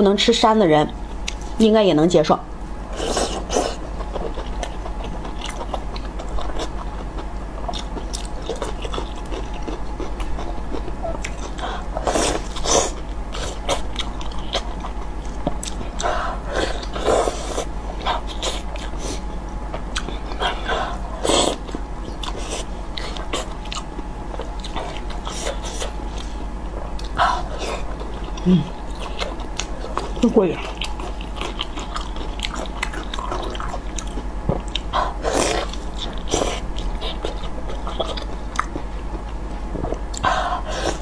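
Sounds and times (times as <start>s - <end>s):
chewing and lip-smacking: 3.1s - 16.1s, 16.7s - 40.3s.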